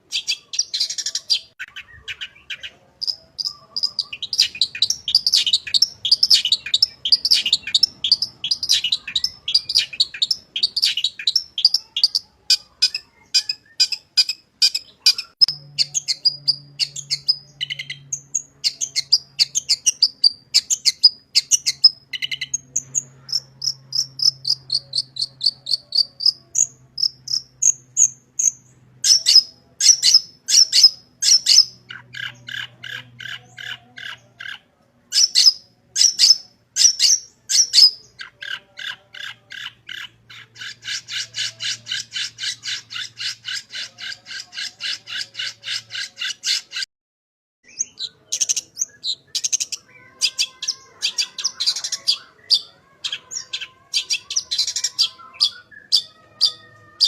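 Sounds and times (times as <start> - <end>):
shrike singing varied song: 0.0 - 46.8, 47.6 - 57.0.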